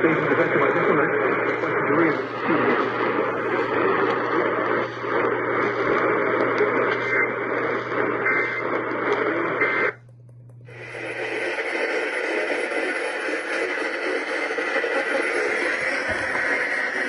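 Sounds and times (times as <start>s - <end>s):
radio static hiss: 0.0s - 10.1s, 10.7s - 17.0s
low hum: 0.0s - 14.4s.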